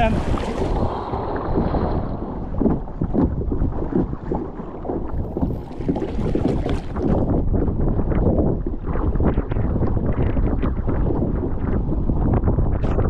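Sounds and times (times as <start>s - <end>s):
water splashing on kayak: 0.0s - 12.3s
wind on microphone: 0.0s - 13.0s.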